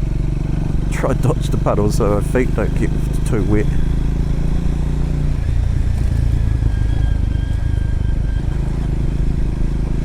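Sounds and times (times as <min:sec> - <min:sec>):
motorcycle engine rumble: 0:00.0 - 0:10.0.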